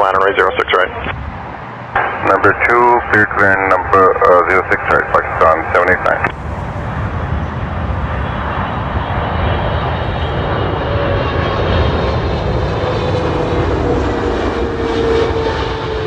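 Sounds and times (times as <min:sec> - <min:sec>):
jet airliner passing: 0:00.0 - 0:16.0.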